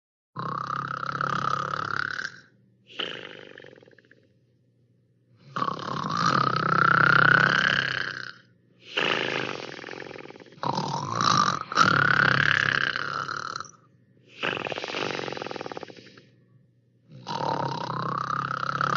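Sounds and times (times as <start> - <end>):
snoring: 0.4 - 4.3, 5.4 - 16.4, 17.1 - 18.9.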